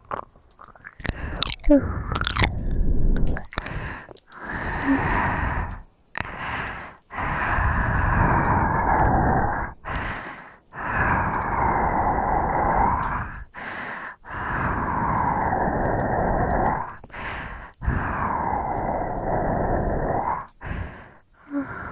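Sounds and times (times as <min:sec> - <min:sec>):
heavy breathing: 0:01.0 - 0:21.9.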